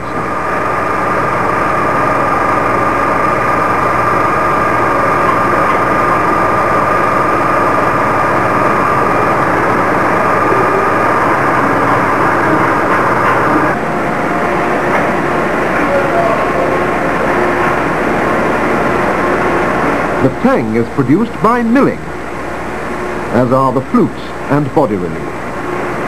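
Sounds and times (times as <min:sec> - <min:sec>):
lathe running with high whine: 0:00.0 - 0:26.0.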